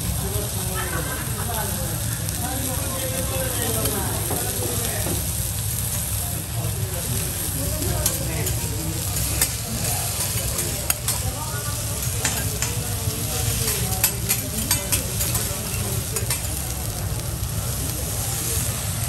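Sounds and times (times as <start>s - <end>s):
meat and vegetables sizzling on griddle: 0.0s - 19.0s.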